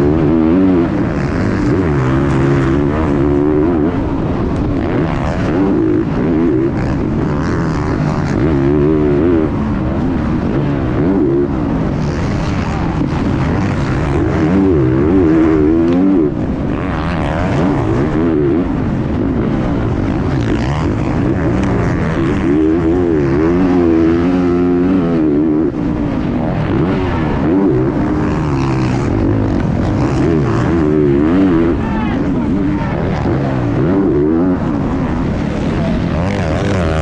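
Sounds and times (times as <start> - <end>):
motorbike engine revving: 0.0 - 37.0.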